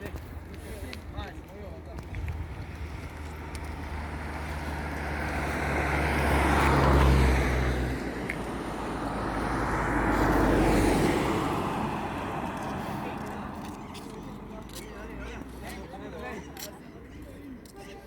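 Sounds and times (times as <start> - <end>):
road vehicles passing: 0.0 - 18.0.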